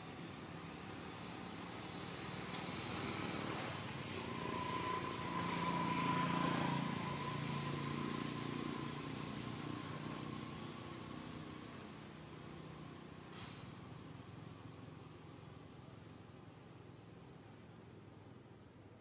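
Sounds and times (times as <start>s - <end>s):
vehicle engine passing by: 0.0s - 16.2s.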